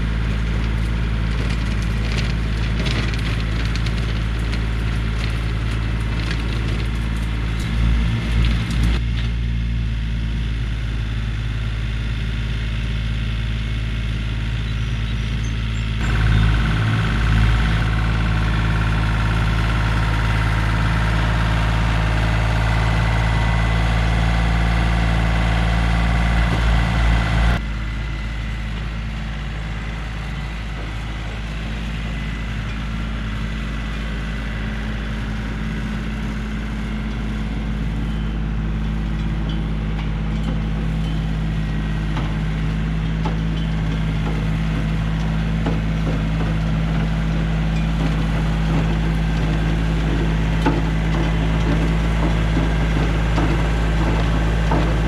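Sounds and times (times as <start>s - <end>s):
open-air noise: 0.0s - 55.0s
tractor diesel engine running: 0.0s - 55.0s.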